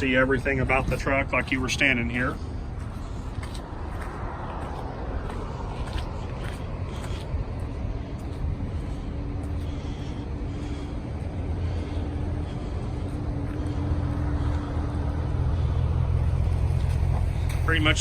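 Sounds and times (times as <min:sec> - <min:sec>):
vehicle passing rumble: 0:00.0 - 0:18.0.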